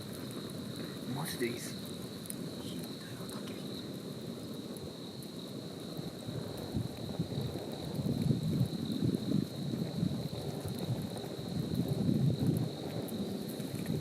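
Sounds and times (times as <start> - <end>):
campfire crackling: 0.0 - 14.0
crickets chirring: 0.0 - 14.0
wind buffeting microphone: 0.0 - 14.0.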